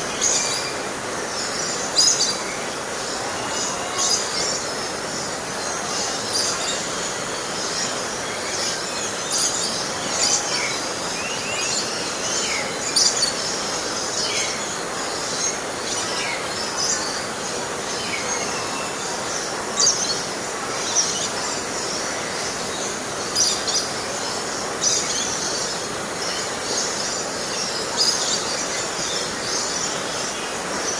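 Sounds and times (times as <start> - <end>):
small birds chirping: 0.0 - 30.9
steady hiss: 0.0 - 30.9.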